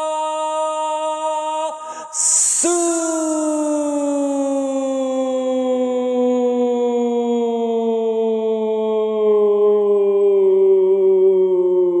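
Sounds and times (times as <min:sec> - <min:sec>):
man singing a long sliding note: 0:00.0 - 0:12.0.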